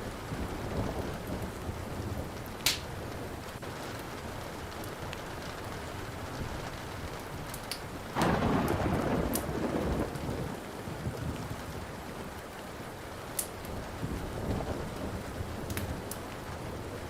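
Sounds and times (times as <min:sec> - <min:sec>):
thunder rumbling: 0:00.0 - 0:07.4, 0:08.0 - 0:13.0, 0:13.6 - 0:17.0
steady rain: 0:00.0 - 0:17.0
wood fire crackling: 0:00.0 - 0:17.0.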